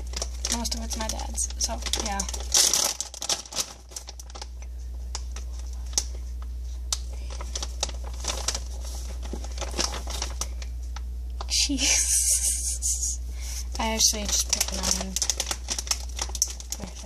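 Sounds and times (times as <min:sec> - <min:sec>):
hands handling packaging: 0:00.0 - 0:10.8, 0:13.7 - 0:17.0
refrigerator humming: 0:00.0 - 0:17.0.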